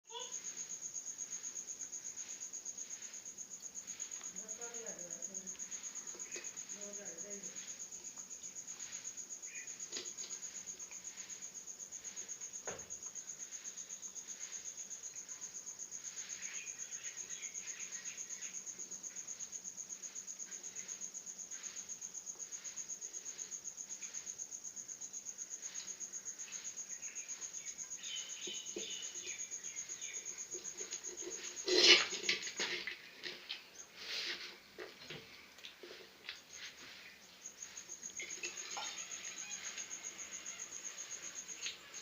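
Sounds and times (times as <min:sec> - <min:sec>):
crickets chirping: 0:00.0 - 0:42.0
faint small sounds: 0:00.0 - 0:42.0.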